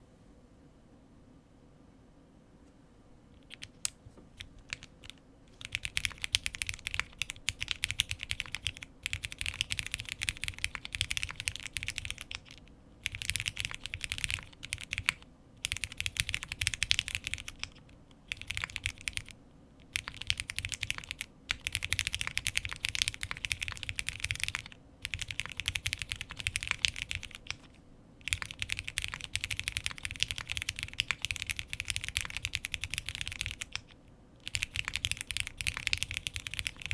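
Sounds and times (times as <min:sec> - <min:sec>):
mechanical keyboard typing: 0:03.4 - 0:36.9.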